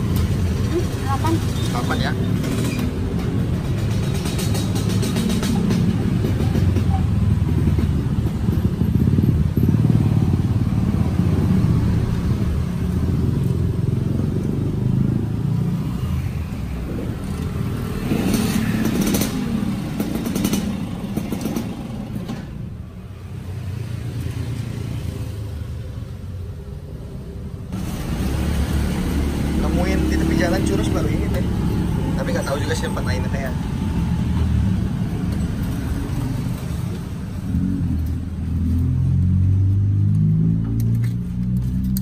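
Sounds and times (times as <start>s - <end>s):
motorbike engines rumbling: 0.0s - 42.0s.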